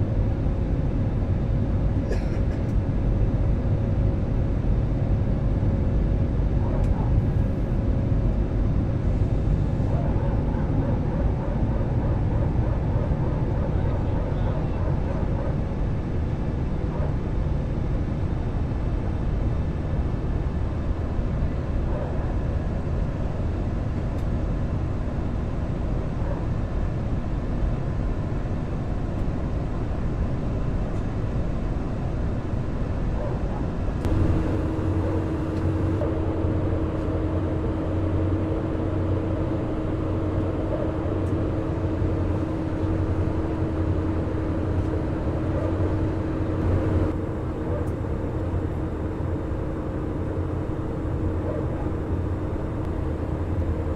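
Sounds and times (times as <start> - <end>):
airplane cabin engine and airflow rush: 0.0 - 53.9
steady low hum: 0.0 - 53.9.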